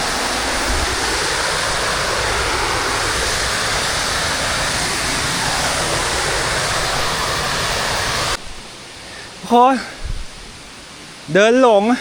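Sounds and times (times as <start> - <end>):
waterfall water rushing: 0.0 - 12.0.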